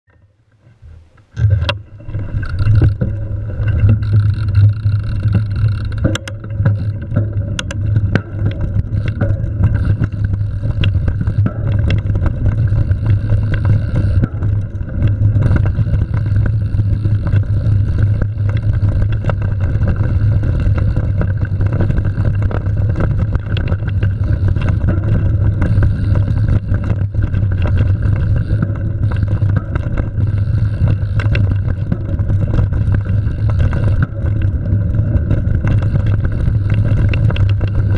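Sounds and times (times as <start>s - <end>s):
bike clicks and rattles: 1.2s - 37.9s.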